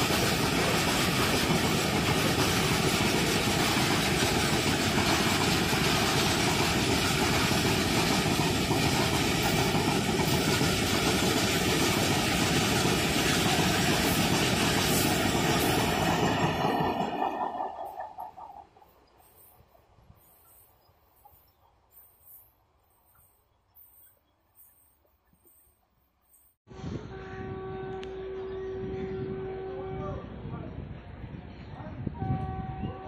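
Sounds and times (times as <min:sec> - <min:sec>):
freight train passing: 0:00.0 - 0:33.0.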